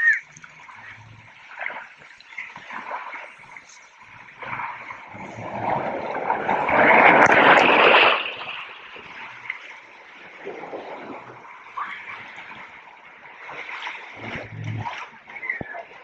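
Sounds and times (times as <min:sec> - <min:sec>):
water rushing down a slide: 0:00.0 - 0:16.0.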